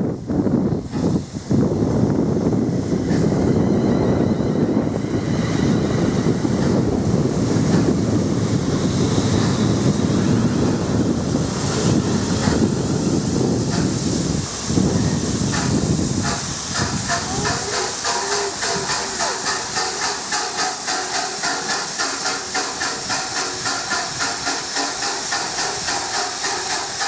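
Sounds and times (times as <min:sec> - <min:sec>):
train passing at speed: 0:00.0 - 0:27.0
wind buffeting microphone: 0:00.0 - 0:27.0.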